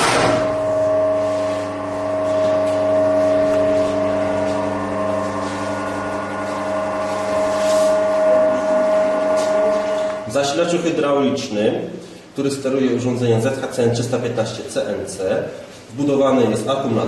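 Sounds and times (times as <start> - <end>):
machine hum with high whine: 0.0 - 17.0.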